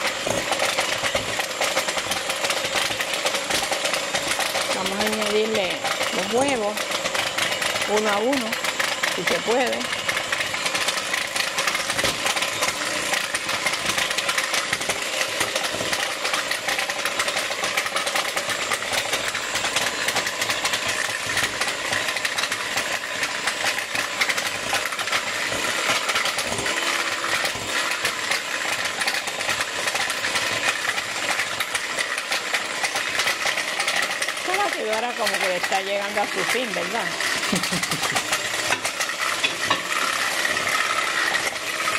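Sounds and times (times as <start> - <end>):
electric hand mixer whisking: 0.0 - 41.9.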